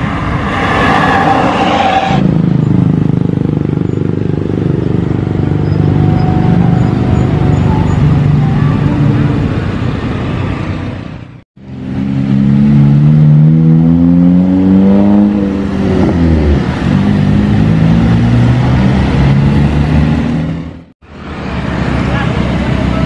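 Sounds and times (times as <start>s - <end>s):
vehicle engine climbing: 0.0s - 23.0s.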